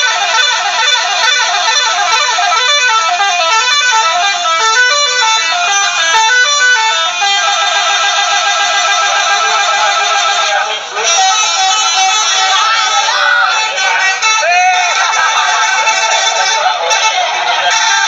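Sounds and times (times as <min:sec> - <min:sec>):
multi-tone bus horn playing a tune: 0:00.0 - 0:18.0.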